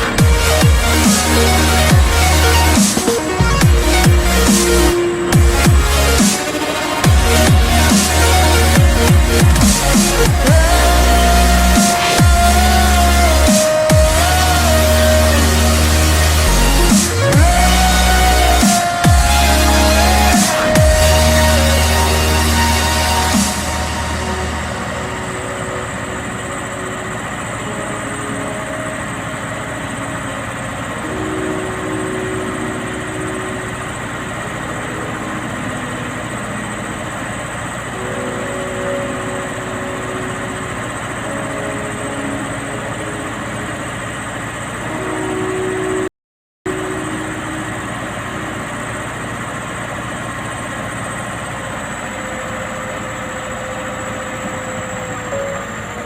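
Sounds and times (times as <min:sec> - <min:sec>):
diesel engine idling: 0:00.0 - 0:46.1, 0:46.7 - 0:56.0.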